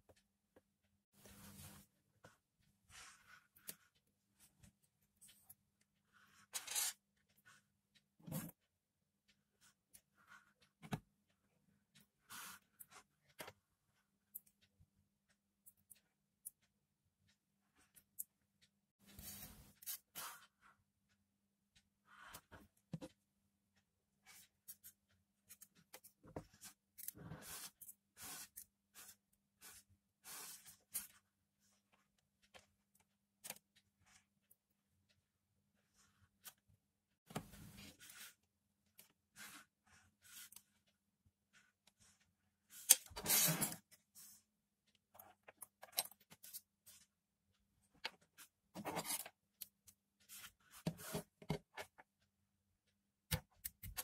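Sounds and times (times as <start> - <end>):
small handling clicks and rustles: 0.0 - 54.0.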